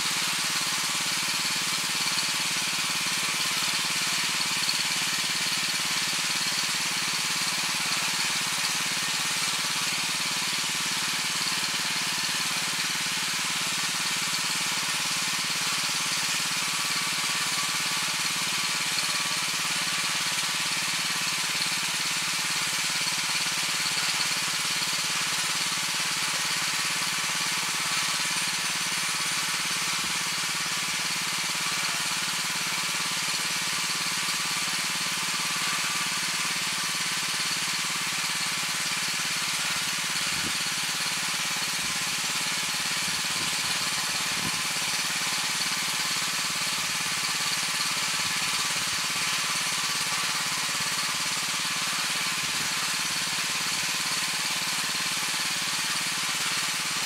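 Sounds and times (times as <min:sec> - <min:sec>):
tiller engine running: 0:00.0 - 0:57.0.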